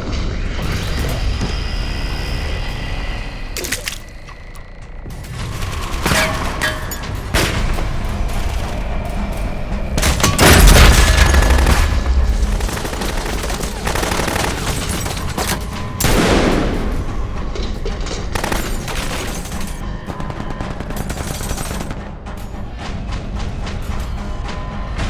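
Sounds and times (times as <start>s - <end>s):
music: 0.0s - 25.0s.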